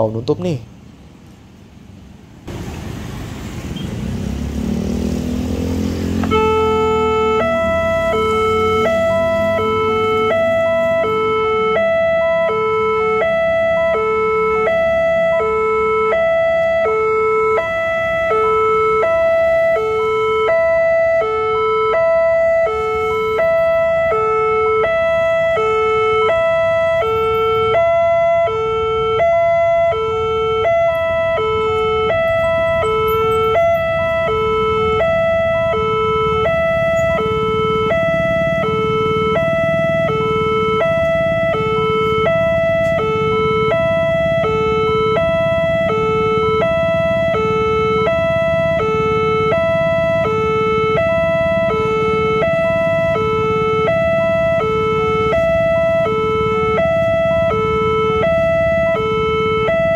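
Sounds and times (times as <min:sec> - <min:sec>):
steady high tone: 0:05.7 - 0:59.4
level crossing two-tone alarm: 0:06.0 - 0:59.9.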